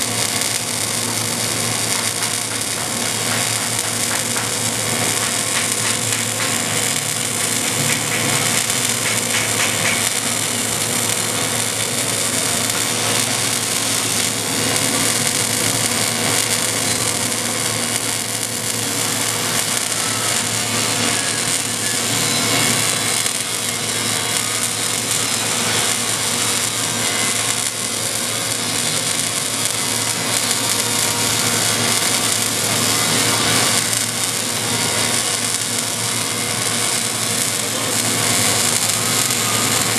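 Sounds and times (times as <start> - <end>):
welding arc crackling hiss: 0.0 - 39.9.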